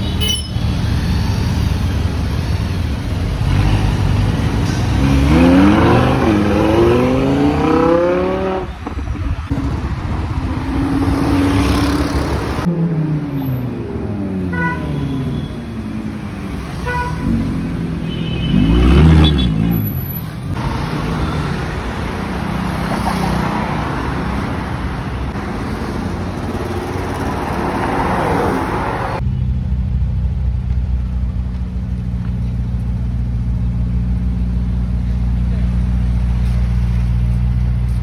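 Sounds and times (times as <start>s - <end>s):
city street traffic: 0.0s - 38.0s.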